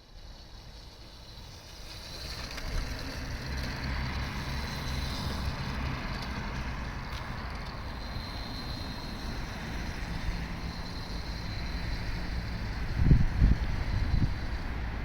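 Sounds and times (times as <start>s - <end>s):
electric dirt bike motor whining: 0.0s - 15.0s.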